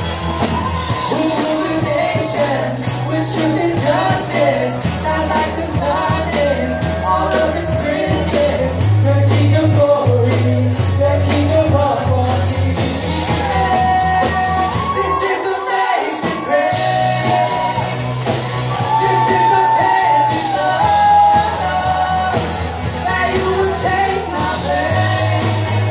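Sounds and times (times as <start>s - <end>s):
sustained bass: 0.0s - 15.2s, 16.3s - 25.9s
tambourine shaking: 0.0s - 25.9s
worship band with singing: 0.0s - 25.9s.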